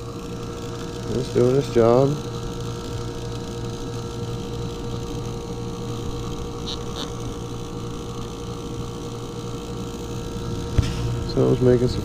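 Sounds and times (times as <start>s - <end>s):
compressor hum: 0.0s - 12.0s.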